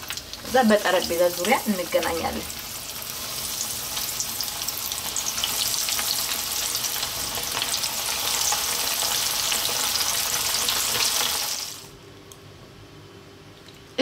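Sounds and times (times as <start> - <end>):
chicken wings deep-frying in oil: 0.0 - 12.0.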